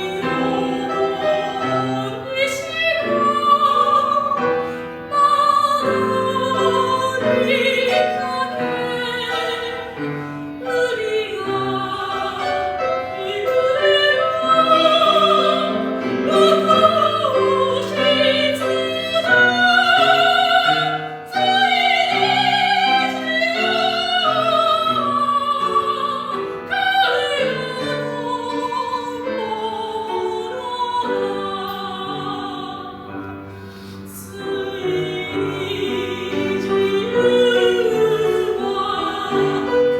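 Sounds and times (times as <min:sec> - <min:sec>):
piano accompaniment: 0:00.0 - 0:39.9
soprano singing: 0:00.0 - 0:39.9.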